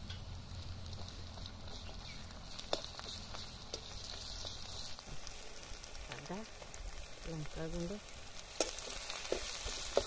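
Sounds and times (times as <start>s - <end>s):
crackles: 0.0s - 10.0s
onions sizzling in oil: 0.0s - 10.0s.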